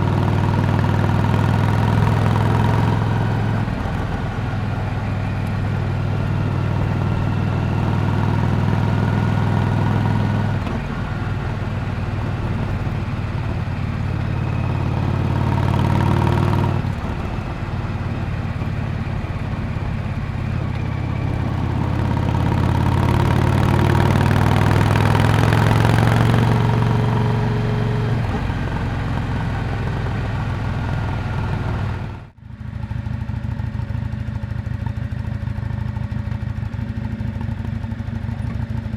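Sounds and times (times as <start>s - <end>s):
motorcycle engine exhaust: 0.0s - 38.9s.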